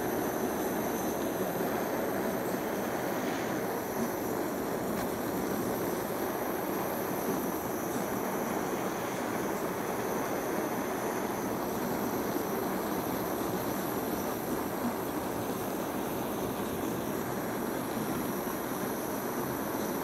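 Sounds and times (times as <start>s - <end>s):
blowtorch flame hissing: 0.0s - 20.0s.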